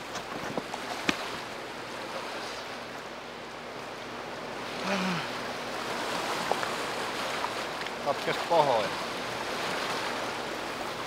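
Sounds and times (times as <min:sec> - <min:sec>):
river water washing on shore: 0:00.0 - 0:11.0.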